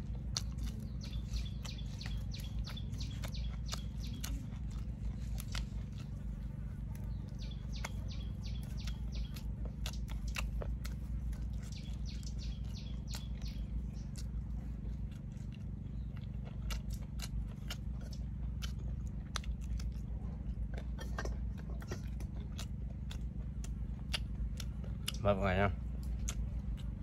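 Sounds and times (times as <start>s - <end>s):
lip smacks: 0.0s - 25.2s, 25.9s - 27.0s
person chewing with wet clicks: 0.0s - 27.0s
steady low hum: 0.0s - 27.0s.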